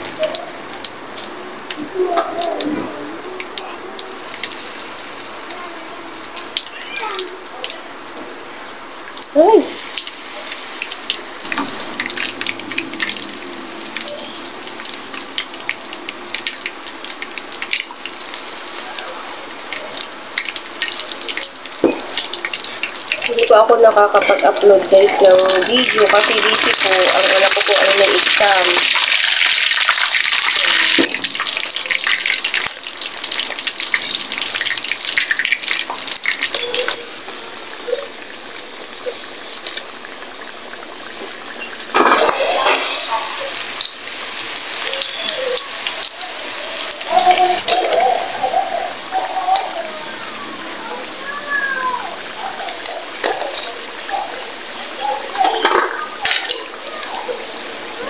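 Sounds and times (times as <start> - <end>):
deep-frying sizzle with popping: 0.0 - 58.0.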